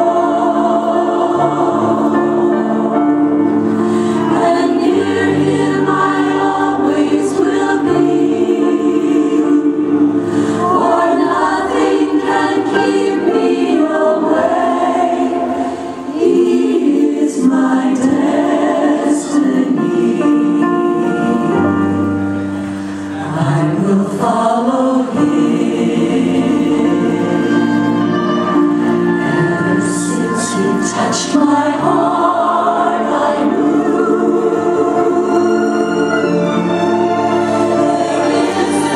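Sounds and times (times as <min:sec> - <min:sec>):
choir singing gospel song: 0:00.0 - 0:38.9
musical backing: 0:00.0 - 0:38.9.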